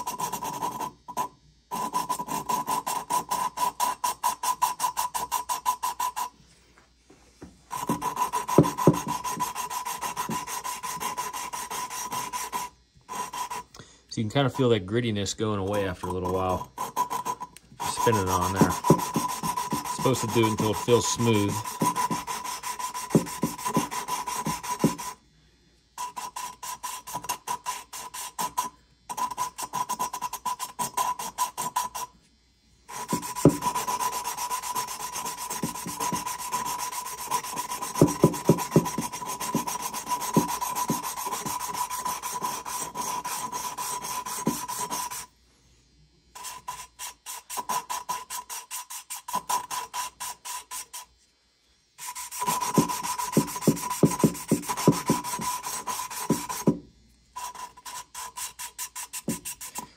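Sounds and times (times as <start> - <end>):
valve grinding against seat: 0.0 - 6.4, 7.6 - 25.2, 26.0 - 32.2, 32.8 - 45.3, 46.4 - 51.1, 52.0 - 59.9.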